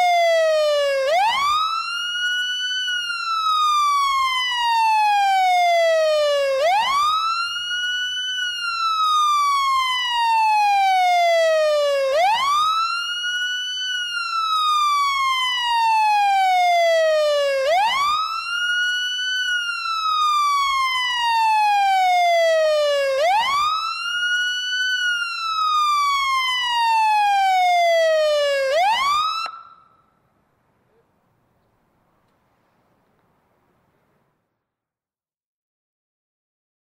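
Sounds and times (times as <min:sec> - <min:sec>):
fire siren wailing: 0:00.0 - 0:30.2.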